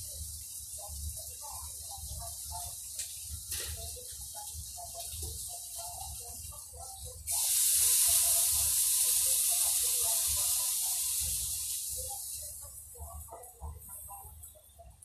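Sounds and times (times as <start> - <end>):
water poured into hot pan: 0.0 - 12.4
loud sizzle and hiss: 0.0 - 14.3
fish sizzling faintly: 0.0 - 15.0.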